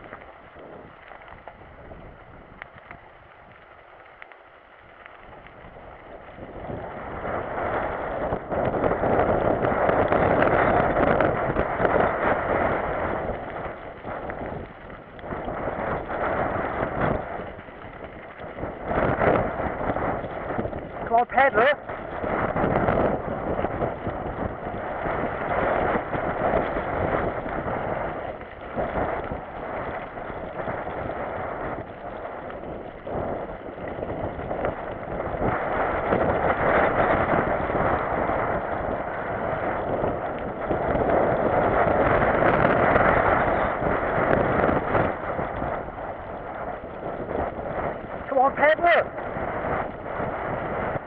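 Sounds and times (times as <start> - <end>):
bike knocking and rattling: 0.0 - 51.0
tyres on muddy trail: 0.0 - 51.0
wind rushing over microphone: 0.0 - 51.0.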